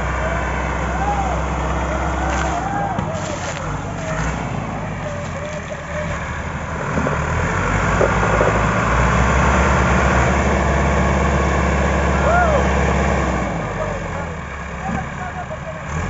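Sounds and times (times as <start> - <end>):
tractor diesel engine straining: 0.0 - 16.0.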